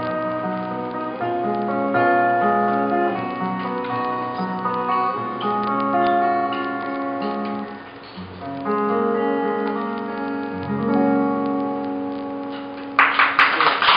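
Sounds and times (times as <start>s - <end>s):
acoustic guitar chords and notes: 0.0s - 13.4s.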